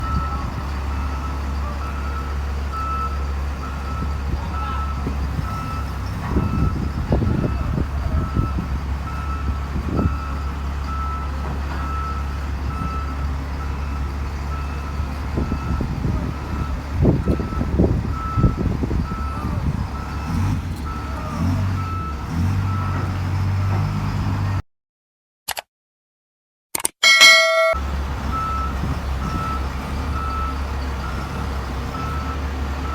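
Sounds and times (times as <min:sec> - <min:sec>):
reversing alarm beeping: 0:00.0 - 0:23.0, 0:27.0 - 0:32.9
diesel engine running under load: 0:00.0 - 0:24.6, 0:27.8 - 0:32.9.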